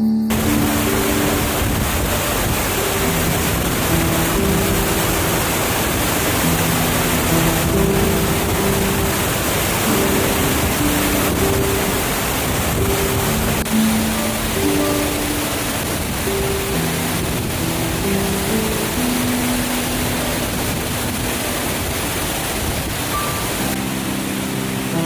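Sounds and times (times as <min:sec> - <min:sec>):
soft piano music: 0:00.0 - 0:25.0
waterfall roar: 0:00.3 - 0:25.0.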